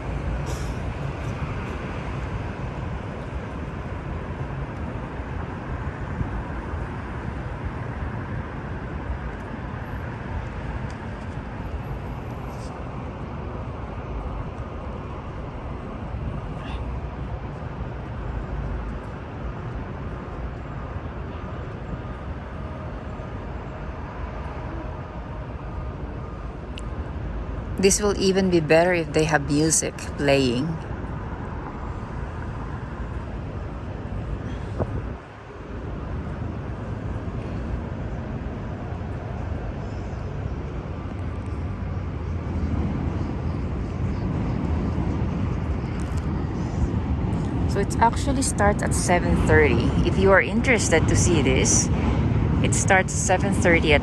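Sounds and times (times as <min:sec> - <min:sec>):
faint steady hum: 0:00.0 - 0:54.0
traffic rumble: 0:00.0 - 0:54.0.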